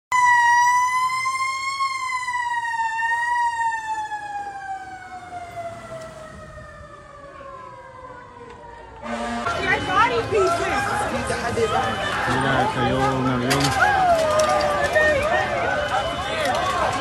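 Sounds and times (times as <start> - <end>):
emergency vehicle siren wailing: 0.1 - 17.0.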